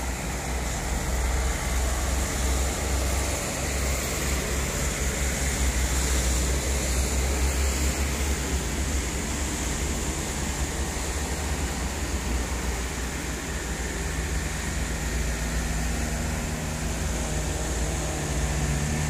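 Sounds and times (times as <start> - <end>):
diesel truck engines rumbling: 0.0 - 19.0
road noise hiss: 0.0 - 19.0.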